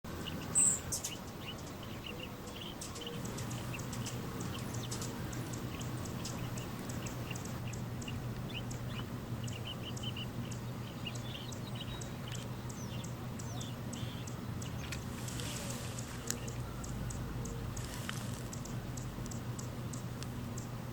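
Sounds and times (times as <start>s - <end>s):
steady low hum: 0.1s - 20.9s
hummingbird chips: 2.4s - 8.9s, 10.5s - 20.8s.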